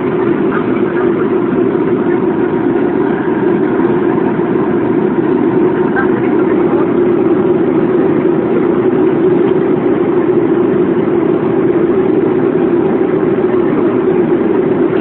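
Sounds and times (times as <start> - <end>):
airliner cabin engine drone: 0.0 - 15.0.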